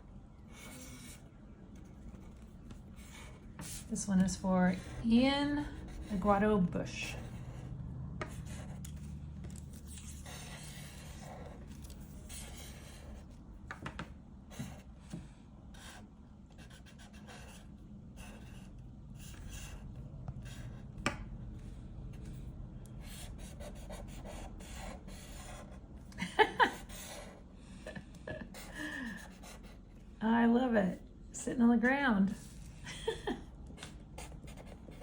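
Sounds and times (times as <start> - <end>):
pen scratching on paper: 0.5 - 25.8, 26.7 - 27.4, 28.5 - 29.8, 33.8 - 35.0.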